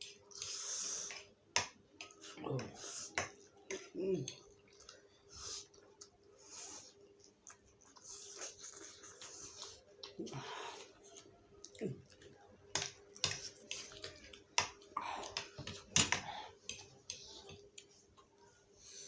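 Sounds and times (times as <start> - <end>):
person chewing noodles: 2.0 - 18.3.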